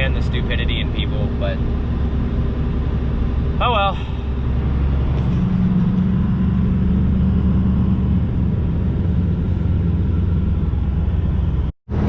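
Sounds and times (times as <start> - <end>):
diesel truck engine drone: 0.0 - 12.0
tyres on road: 0.0 - 12.0.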